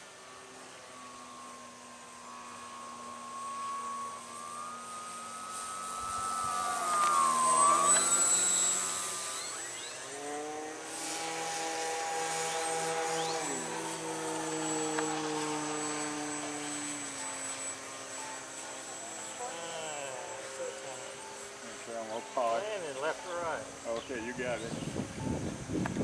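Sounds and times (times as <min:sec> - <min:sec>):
radio-controlled planes whining: 0:00.0 - 0:26.0.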